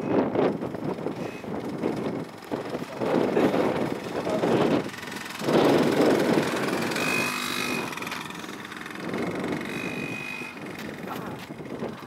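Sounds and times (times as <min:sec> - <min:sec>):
dirt bike engine passing: 0:00.5 - 0:12.0.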